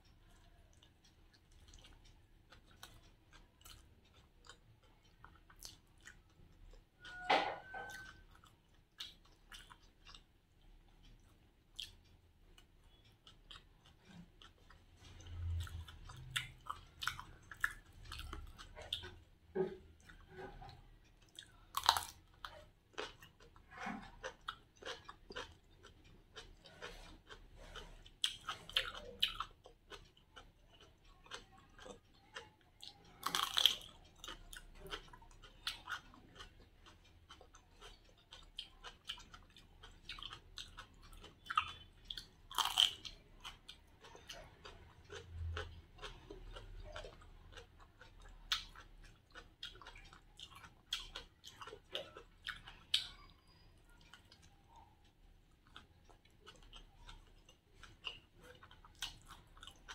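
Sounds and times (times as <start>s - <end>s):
chewing cucumber: 0.0s - 59.9s.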